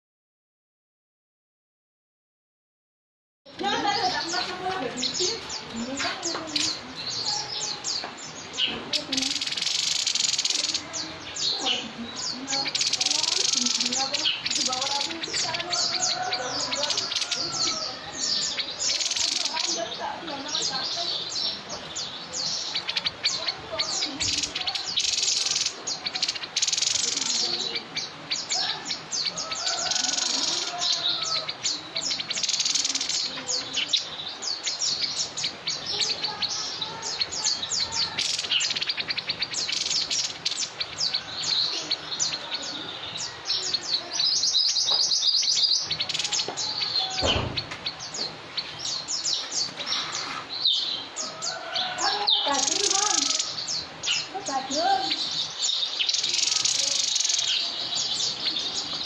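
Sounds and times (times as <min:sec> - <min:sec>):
songbird chirping and trilling: 0:03.5 - 0:59.0.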